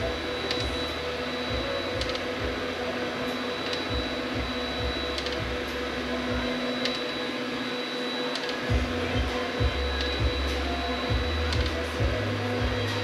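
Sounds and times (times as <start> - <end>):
steady hum: 0.0 - 13.0
stepper motors whining: 0.0 - 13.0.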